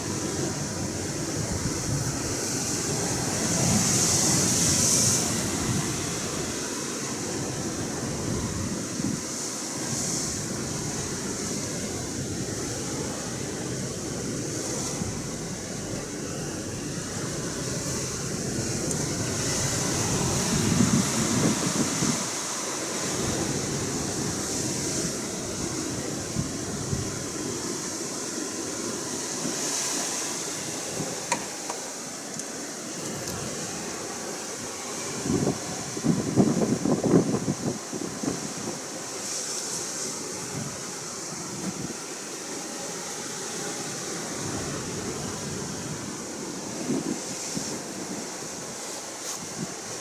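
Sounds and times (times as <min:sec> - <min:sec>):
ocean surf washing on shore: 0:00.0 - 0:50.0.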